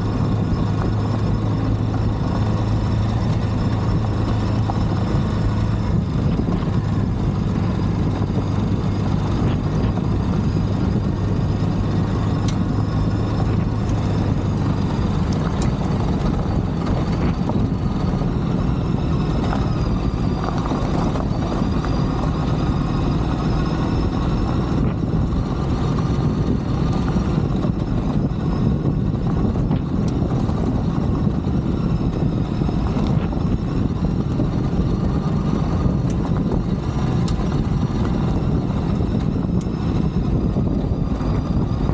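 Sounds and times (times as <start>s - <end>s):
motorcycle engine running: 0.0s - 41.9s
wind noise: 0.0s - 41.9s.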